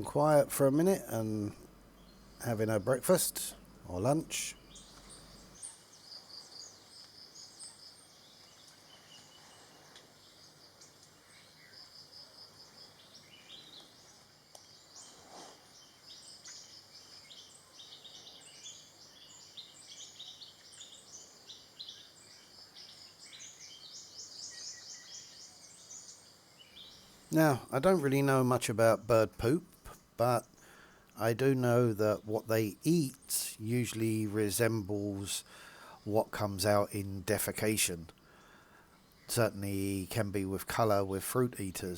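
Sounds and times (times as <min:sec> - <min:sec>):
small birds chirping and trilling: 0:00.0 - 0:41.9.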